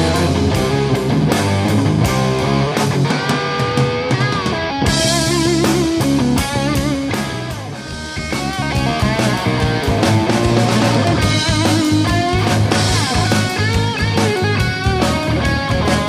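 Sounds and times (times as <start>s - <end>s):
bass: 0.0s - 16.0s
drums with cymbals: 0.0s - 16.0s
lead electric guitar bent notes: 0.0s - 16.0s.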